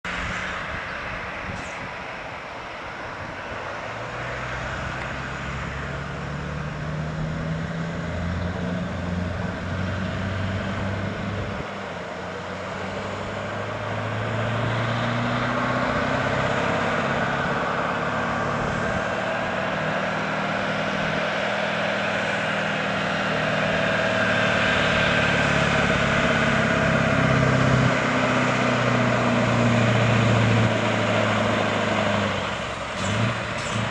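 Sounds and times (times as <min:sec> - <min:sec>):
diesel truck engine under load: 0:00.0 - 0:33.9.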